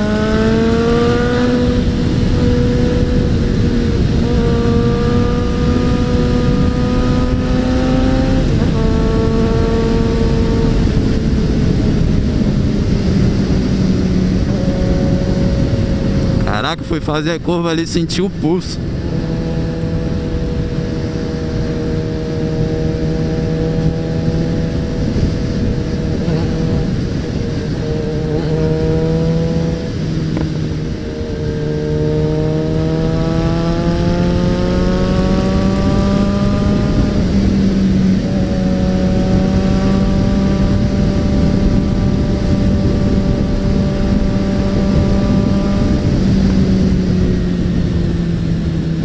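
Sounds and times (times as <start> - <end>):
motorcycle engine cruising: 0.0 - 49.0
road rumble: 0.0 - 49.0
wind: 0.0 - 49.0.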